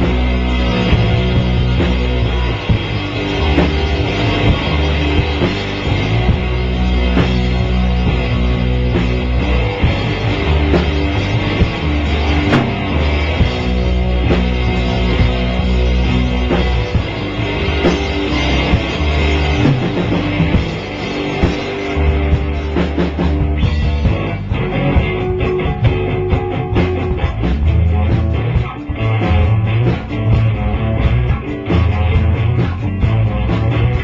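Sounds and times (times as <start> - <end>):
drum hits: 0.0 - 27.4
guitar: 0.0 - 34.0
rock music: 0.0 - 34.0.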